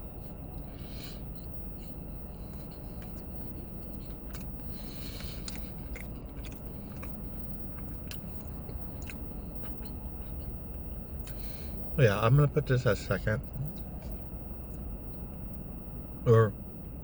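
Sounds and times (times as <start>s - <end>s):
chewing: 0.0s - 16.1s
low steady hum: 0.0s - 17.0s.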